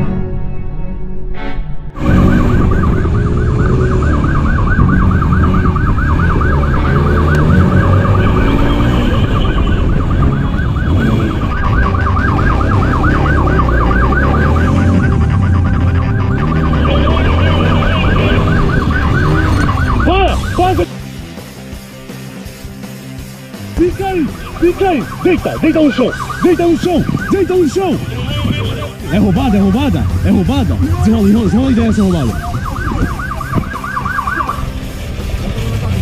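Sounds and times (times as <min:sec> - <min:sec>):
motorcycle siren warbling yelp: 0:02.0 - 0:20.9, 0:23.9 - 0:34.8
motorcycle engine rumble: 0:02.0 - 0:36.0.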